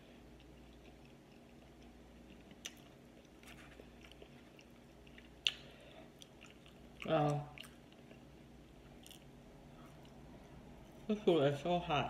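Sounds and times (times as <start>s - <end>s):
faint chewing of food: 0.0s - 11.1s.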